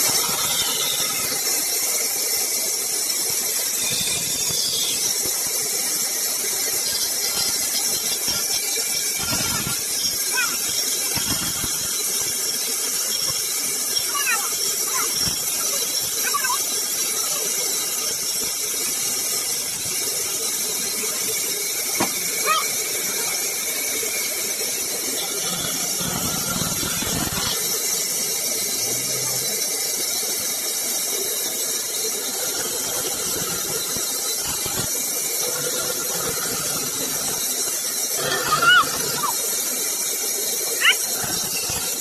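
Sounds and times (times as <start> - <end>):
saw cutting through wood: 0.0 - 42.0.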